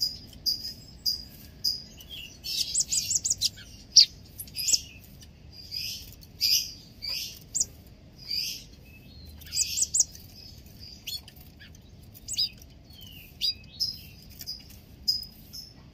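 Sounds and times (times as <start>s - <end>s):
songbirds chirping: 0.0s - 15.9s.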